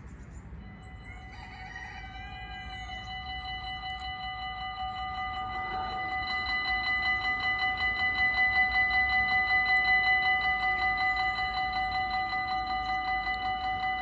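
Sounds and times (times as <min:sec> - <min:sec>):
level crossing bells ringing: 0:00.6 - 0:14.0.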